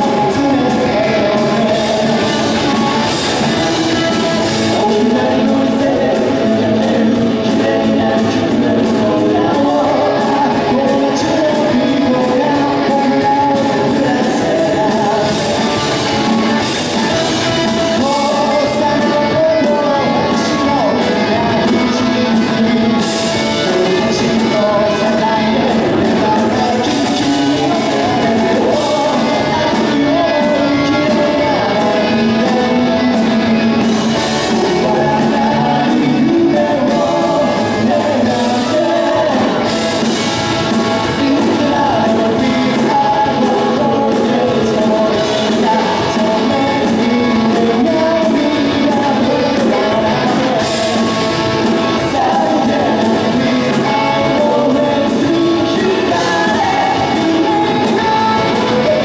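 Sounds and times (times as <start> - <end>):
live rock band: 0.0 - 59.0
man singing: 0.0 - 59.0.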